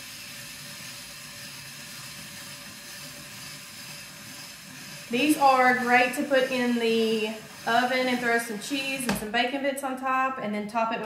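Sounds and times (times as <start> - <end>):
spiralizer scraping through potato: 0.0 - 9.6.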